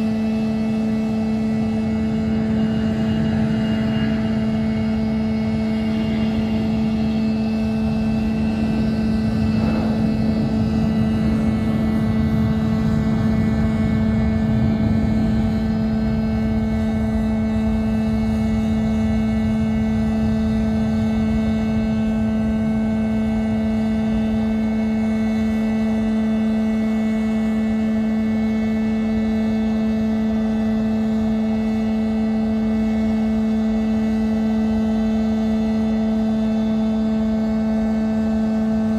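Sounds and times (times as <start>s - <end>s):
jet engines idling: 0.0s - 38.9s.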